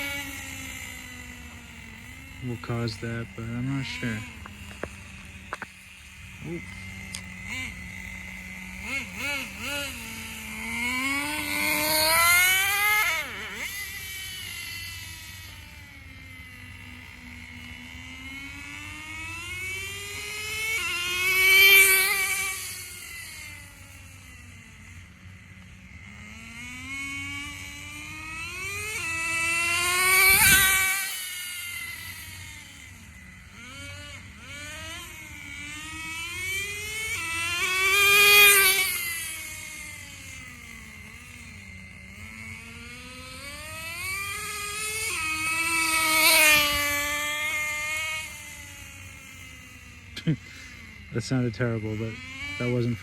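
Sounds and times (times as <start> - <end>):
rc car engine revving: 0.0 - 53.0.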